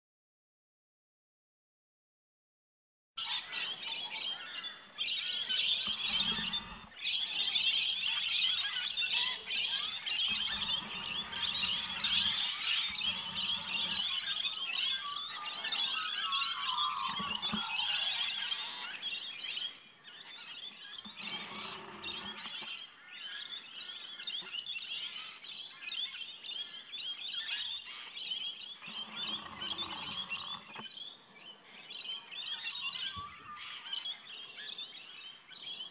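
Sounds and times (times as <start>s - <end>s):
flock of parrots chattering: 3.2s - 26.0s, 26.6s - 35.2s.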